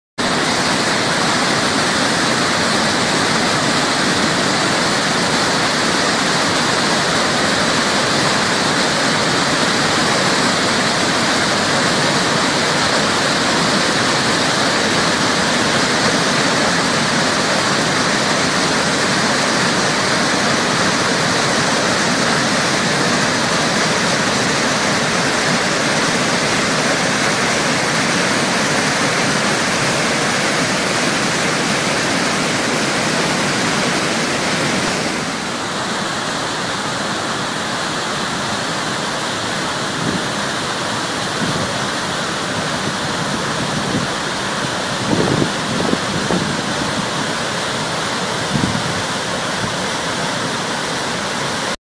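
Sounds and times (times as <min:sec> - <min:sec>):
waterfall rushing: 0:00.2 - 0:51.8.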